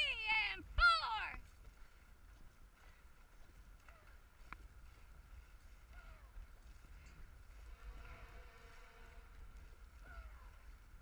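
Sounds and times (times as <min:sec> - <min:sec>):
wind rumble on microphone: 0:00.6 - 0:11.0.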